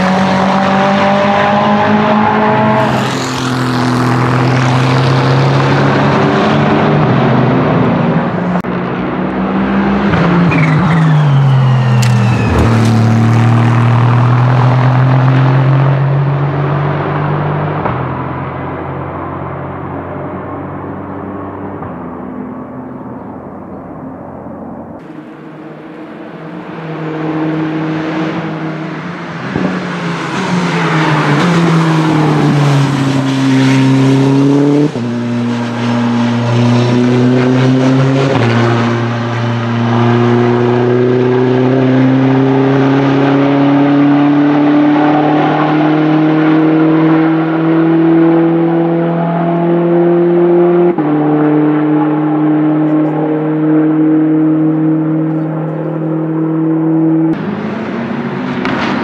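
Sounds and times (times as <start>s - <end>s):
race car engine accelerating: 0.0s - 24.0s, 25.0s - 59.0s.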